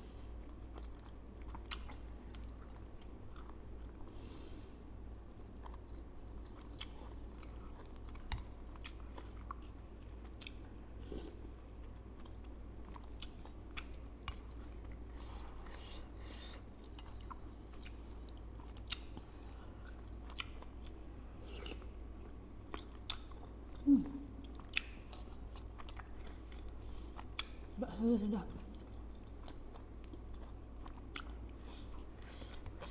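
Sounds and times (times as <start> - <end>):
chewing and crunching: 0.4 - 4.2, 5.4 - 27.8, 28.6 - 32.9.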